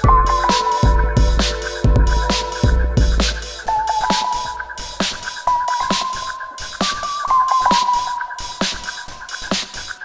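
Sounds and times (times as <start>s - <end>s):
drum machine beat: 0.0s - 10.0s.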